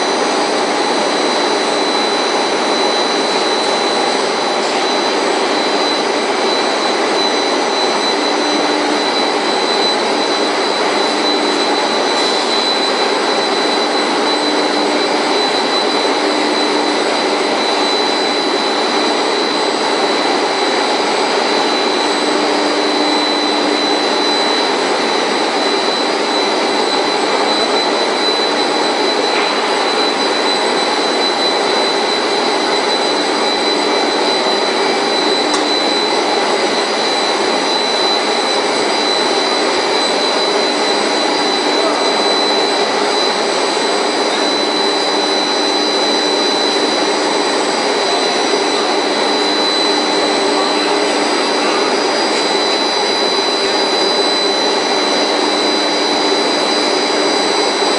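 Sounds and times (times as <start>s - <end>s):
high machine whine: 0.0s - 57.9s.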